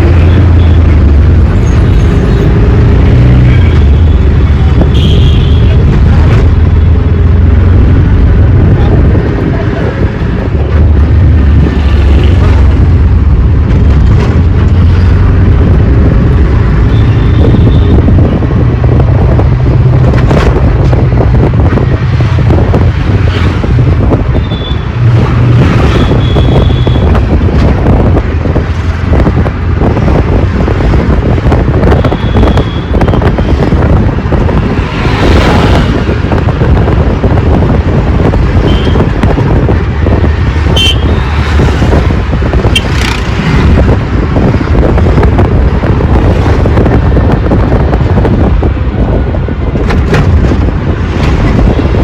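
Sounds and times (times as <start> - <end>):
road rattle: 0.0 - 52.0
wind buffeting microphone: 0.0 - 52.0.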